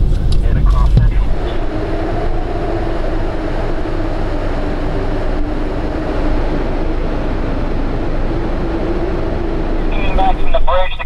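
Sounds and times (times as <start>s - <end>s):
strong wind rushing: 0.0s - 11.0s.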